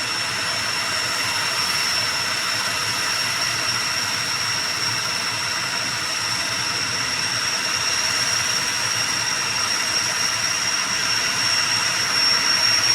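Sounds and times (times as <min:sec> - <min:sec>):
turboprop engines whining: 0:00.0 - 0:12.9.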